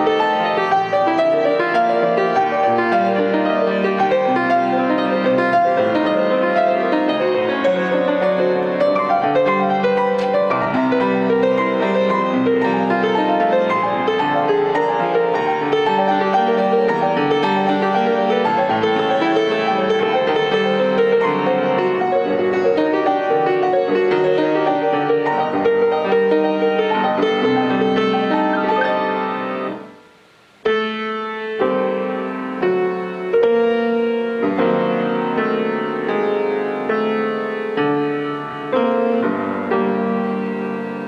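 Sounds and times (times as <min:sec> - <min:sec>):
classical piano playing: 0:00.0 - 0:41.0.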